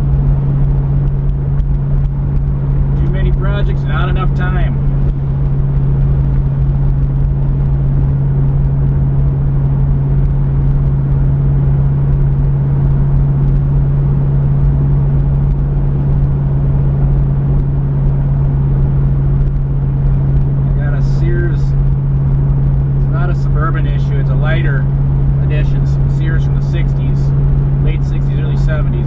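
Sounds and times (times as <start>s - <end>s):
car engine drone: 0.0s - 29.0s
road rumble: 0.0s - 29.0s.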